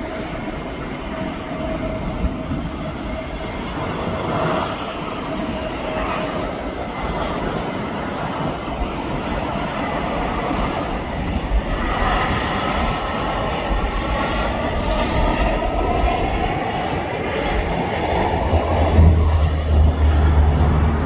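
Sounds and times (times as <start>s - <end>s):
jet engine whine: 0.0s - 21.0s
jet engines roaring: 0.0s - 21.0s.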